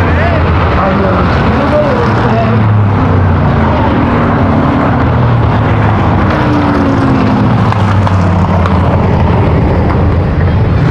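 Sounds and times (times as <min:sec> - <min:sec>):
race car engines running: 0:00.0 - 0:10.9.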